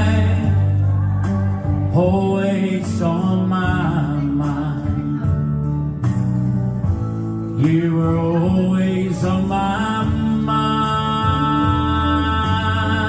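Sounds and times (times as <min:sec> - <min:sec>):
man singing: 0:00.0 - 0:05.8, 0:07.4 - 0:13.0
country band playing ballad: 0:00.0 - 0:13.0.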